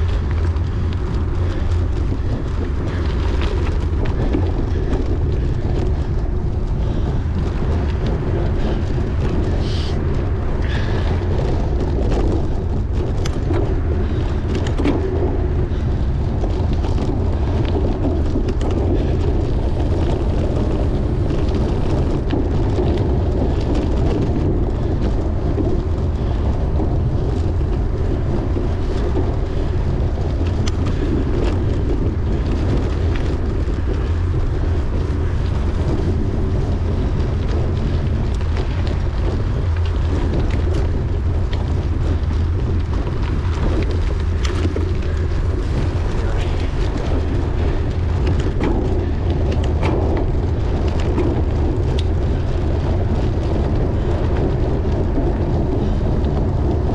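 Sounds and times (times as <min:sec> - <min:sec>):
wind rumble on microphone: 0:00.0 - 0:56.9.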